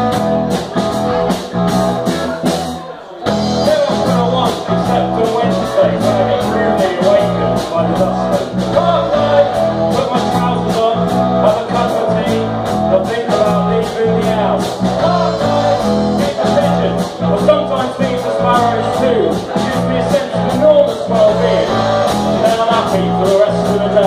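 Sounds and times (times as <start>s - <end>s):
bass line: 0.0s - 24.0s
drums and cymbals: 0.0s - 24.0s
electric guitars: 0.0s - 24.0s
person singing: 2.0s - 24.0s.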